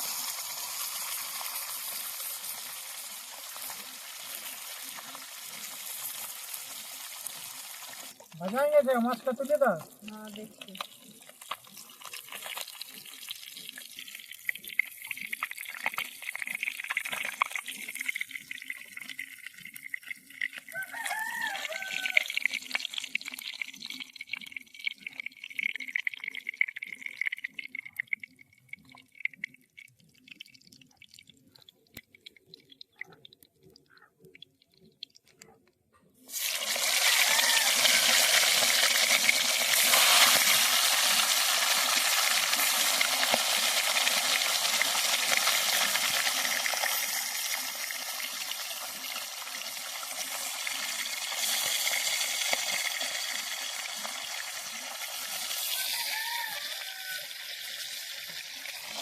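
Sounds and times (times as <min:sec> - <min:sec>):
oil sizzling in a pan: 0:00.0 - 0:26.0, 0:36.3 - 0:59.0.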